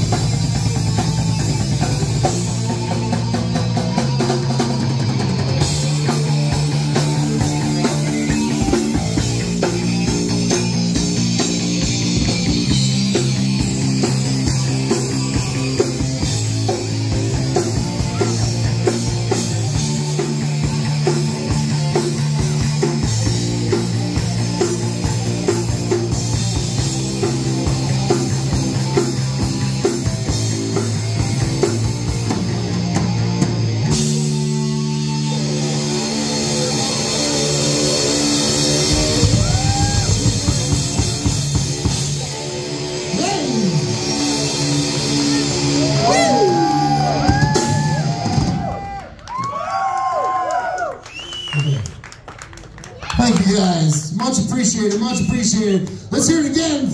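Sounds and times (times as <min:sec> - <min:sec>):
drum kit: 0:00.0 - 0:49.4
bass guitar: 0:00.0 - 0:49.6, 0:51.6 - 0:56.9
electric guitar: 0:00.0 - 0:50.0.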